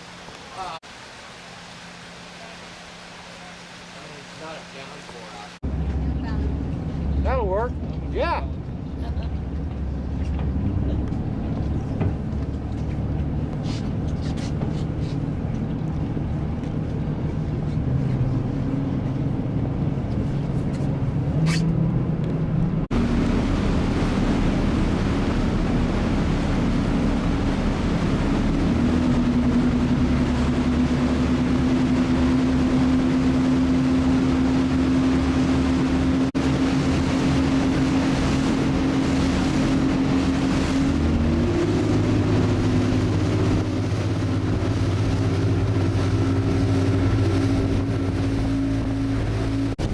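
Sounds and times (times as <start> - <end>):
speedboat engine running: 0.0 - 49.9
wind and water rushing: 0.0 - 49.9.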